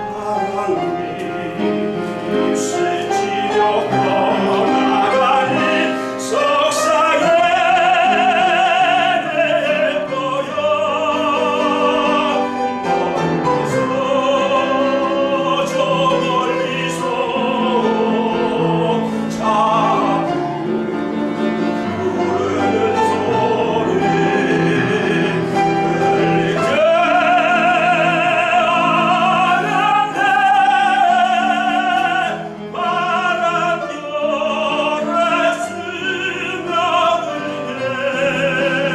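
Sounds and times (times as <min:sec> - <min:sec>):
piano accompaniment: 0:00.0 - 0:38.9
tenor singing operatically: 0:00.0 - 0:38.9.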